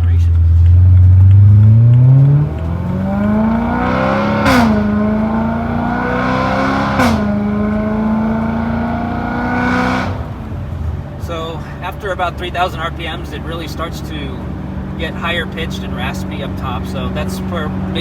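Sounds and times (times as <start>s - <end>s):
car engine accelerating: 0.0s - 18.0s
raspy exhaust: 0.0s - 18.0s.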